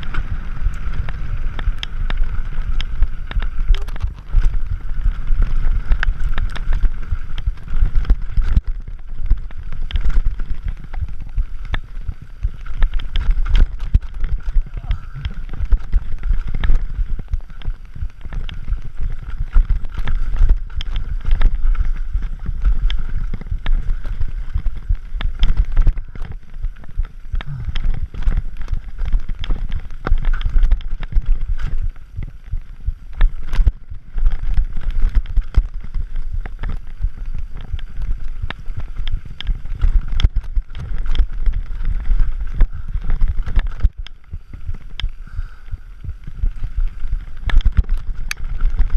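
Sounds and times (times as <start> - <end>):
mountain bike rattling over rocks: 0.0 - 48.9
tyre rumble: 0.0 - 48.9
wind on microphone: 0.0 - 48.9.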